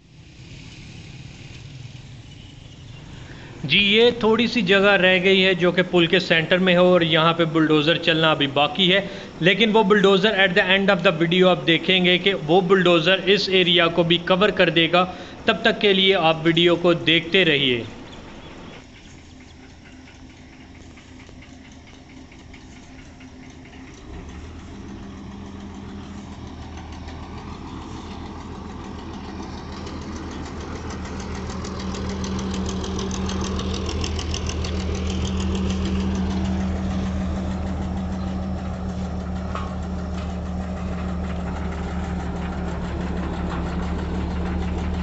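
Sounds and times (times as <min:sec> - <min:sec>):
road roller engine idling: 0:00.0 - 0:45.0.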